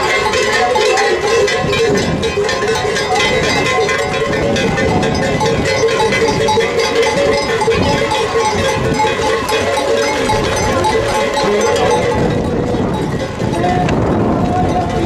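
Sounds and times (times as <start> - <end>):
cowbells clanking: 0.0 - 15.0.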